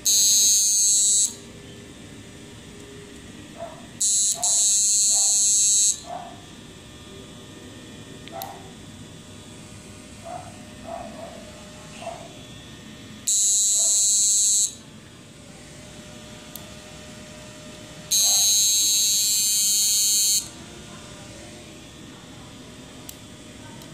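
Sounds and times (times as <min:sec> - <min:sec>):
inverter high-pitched buzz: 0:00.0 - 0:23.9.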